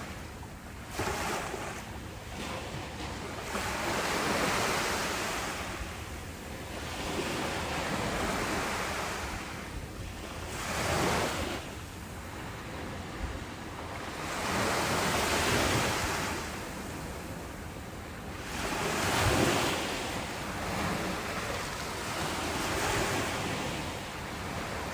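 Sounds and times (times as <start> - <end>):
ocean waves breaking on shore: 0.0 - 24.9.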